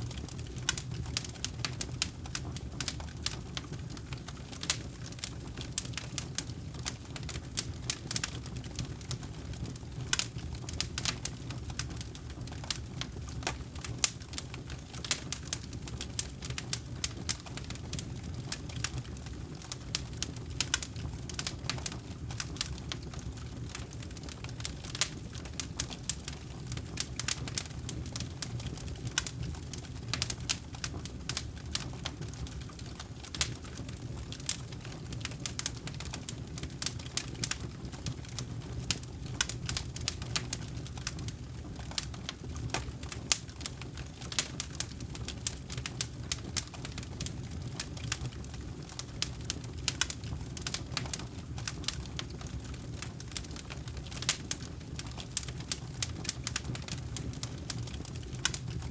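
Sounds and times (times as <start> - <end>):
low rumble of flames: 0.0 - 58.9
wood crackling and popping: 0.0 - 58.9.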